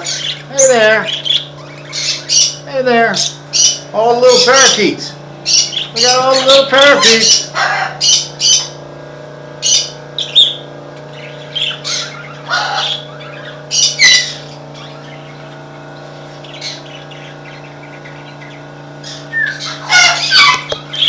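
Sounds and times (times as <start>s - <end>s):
parakeets chirping and squawking: 0.0s - 21.0s
steady low hum: 0.0s - 21.0s.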